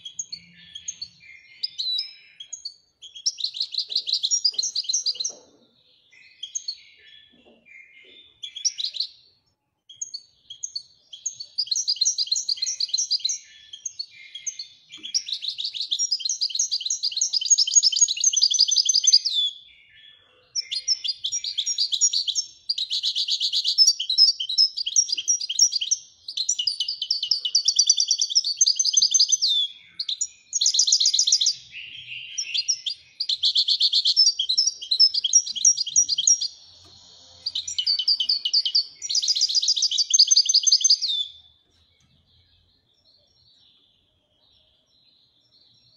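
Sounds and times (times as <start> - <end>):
goldfinch singing trills: 0.0 - 5.4, 6.1 - 9.2, 9.9 - 20.0, 20.6 - 44.1.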